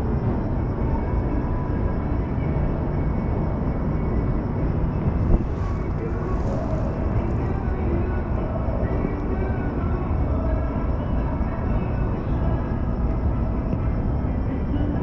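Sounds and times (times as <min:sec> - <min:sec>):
faint voices: 0:00.0 - 0:15.0
monorail car rumbling: 0:00.0 - 0:15.0.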